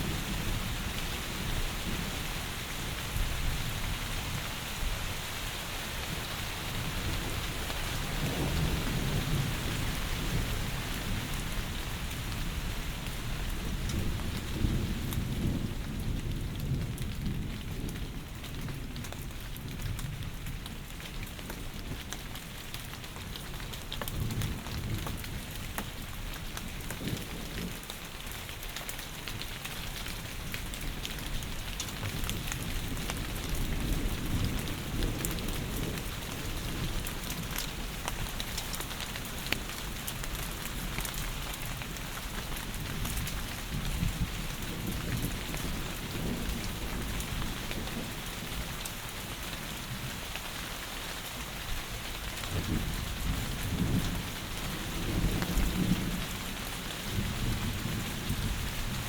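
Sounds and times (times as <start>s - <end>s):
heavy rain falling: 0.0s - 59.0s
low rumbles of thunder: 6.2s - 22.2s, 22.8s - 28.3s, 29.2s - 50.3s, 52.3s - 59.0s.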